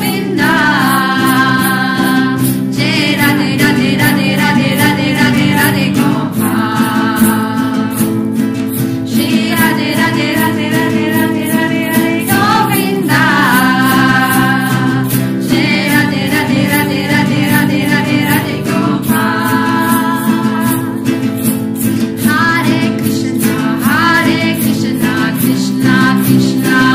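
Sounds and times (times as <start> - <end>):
group singing a chant: 0.0 - 21.2, 22.2 - 26.9
rhythmic accompaniment: 0.0 - 26.9.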